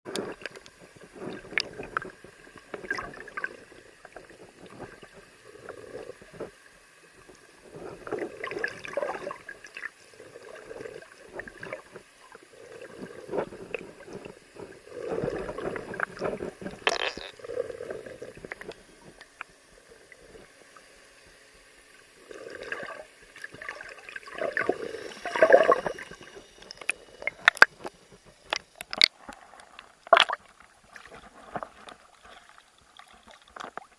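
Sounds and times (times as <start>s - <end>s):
water sloshing and gurgling: 0.1s - 33.9s.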